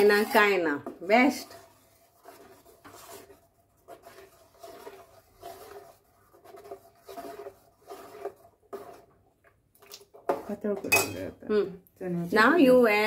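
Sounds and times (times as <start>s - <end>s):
metal spoon scraping a pot: 0.0s - 9.4s, 10.0s - 11.4s.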